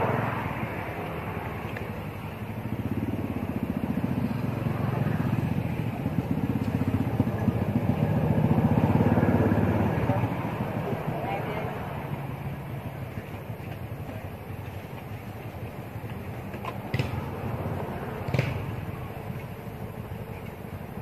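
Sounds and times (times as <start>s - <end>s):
engine running with low pulsing: 0.0s - 21.0s.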